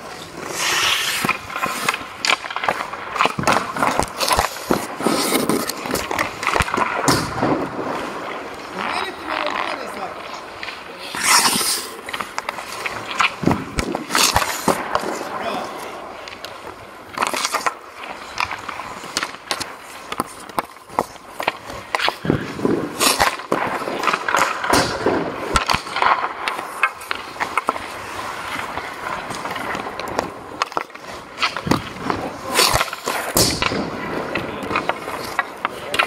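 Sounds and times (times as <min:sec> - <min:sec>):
puck hitting boards: 0:00.0 - 0:08.1, 0:10.6 - 0:36.0
hockey stick striking puck: 0:00.0 - 0:36.0
skates scraping on ice: 0:00.0 - 0:36.0.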